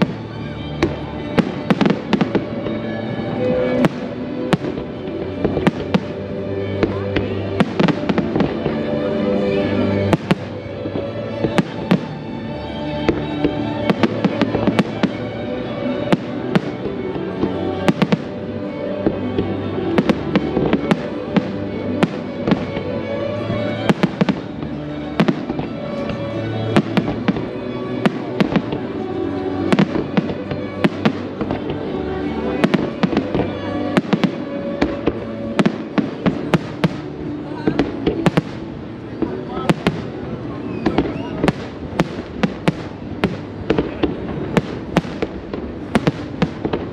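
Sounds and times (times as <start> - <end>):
fireworks bursting: 0.0 - 46.9
music with sustained notes: 0.0 - 46.9.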